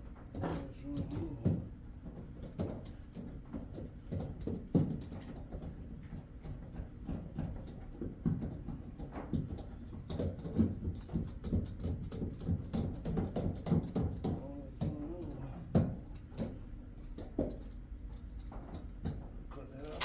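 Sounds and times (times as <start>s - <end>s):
hands and tools clicking and knocking: 0.3s - 20.0s.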